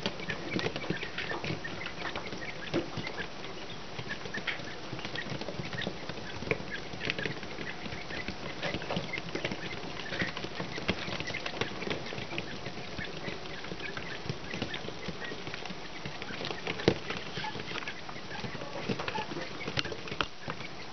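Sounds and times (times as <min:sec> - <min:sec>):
chicks pecking and scratching: 0:00.0 - 0:20.9
chicks peeping: 0:00.0 - 0:20.9.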